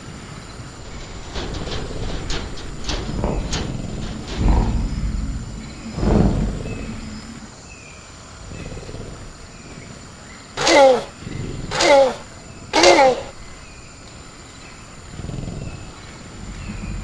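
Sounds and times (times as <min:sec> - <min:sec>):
deep creature growls: 0:00.5 - 0:17.0.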